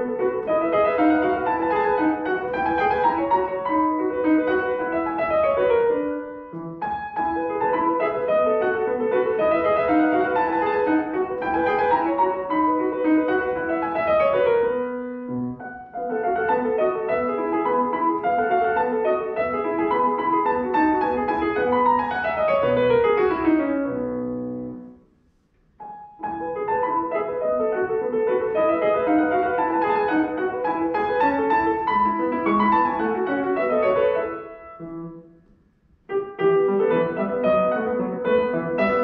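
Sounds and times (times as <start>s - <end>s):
solo classical piano: 0.0s - 39.0s.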